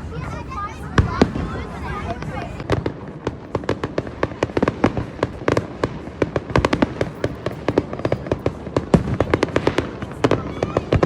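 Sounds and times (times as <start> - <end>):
fireworks popping and banging: 0.8 - 11.0.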